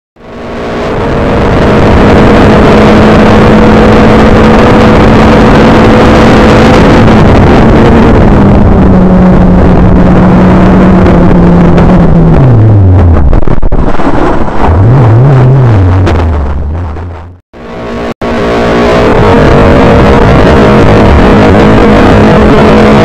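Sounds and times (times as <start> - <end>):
racing car engine at high revs: 0.2 - 23.0.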